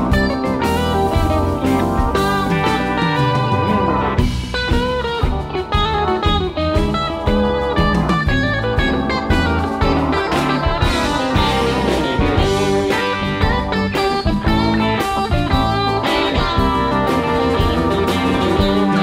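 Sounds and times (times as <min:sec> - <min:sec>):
electric guitar: 0:00.0 - 0:19.0
live rock band playing: 0:00.0 - 0:19.0.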